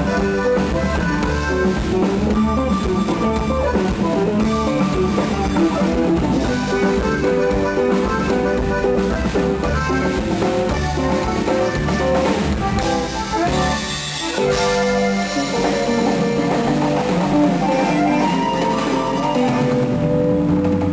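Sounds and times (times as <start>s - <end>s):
band playing guitar music: 0.0s - 20.9s
drums: 0.0s - 20.9s.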